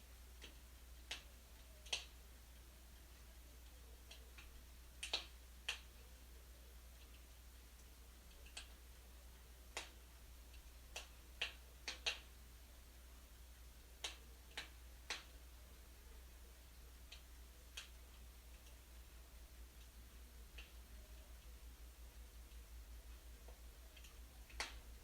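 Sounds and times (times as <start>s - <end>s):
wood fire crackling: 0.1s - 25.0s.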